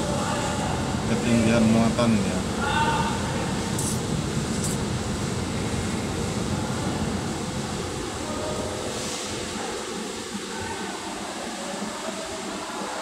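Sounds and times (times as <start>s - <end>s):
diesel engines and ventilation rumble: 0.0s - 13.0s.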